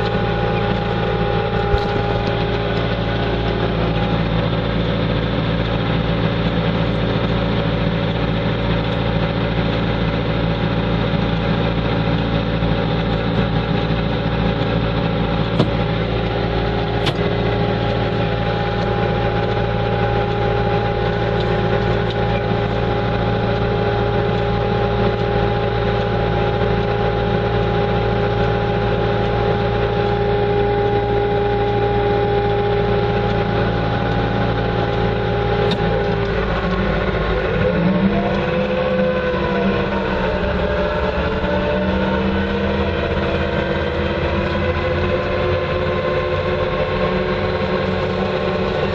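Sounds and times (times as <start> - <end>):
loader engine idling: 0.0 - 48.9.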